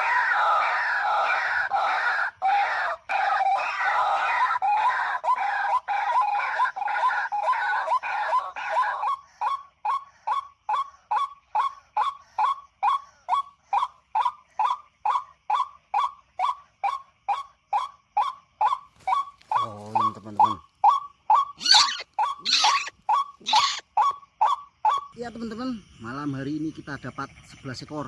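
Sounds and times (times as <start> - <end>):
waterhen calling: 0.0 - 14.8, 18.6 - 26.3.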